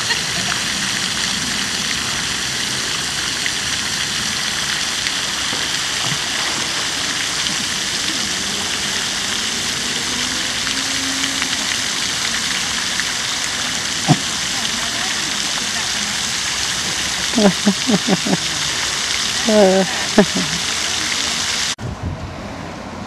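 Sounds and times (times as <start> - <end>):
fountain water splashing: 0.0 - 21.8.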